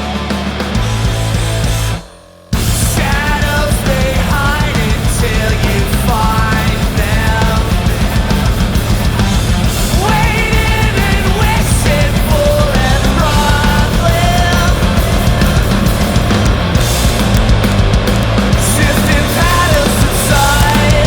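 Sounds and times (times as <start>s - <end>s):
heavy metal music: 0.0s - 21.0s.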